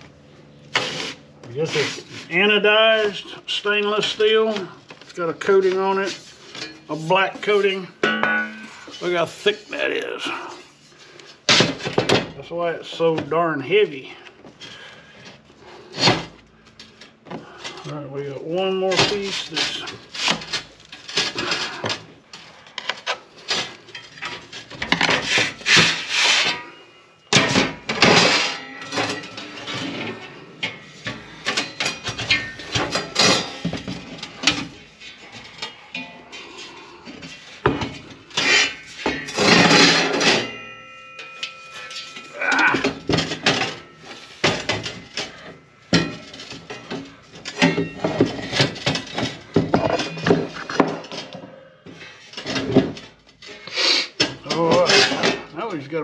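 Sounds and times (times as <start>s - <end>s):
metal panels clanking and scraping: 5.2s - 10.3s, 15.6s - 56.0s.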